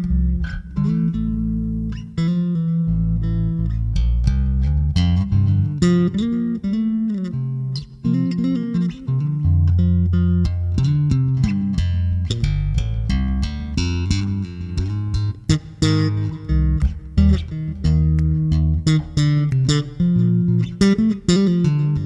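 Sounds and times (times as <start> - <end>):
bass line: 0.0 - 22.0
plucked guitar notes: 0.0 - 22.0.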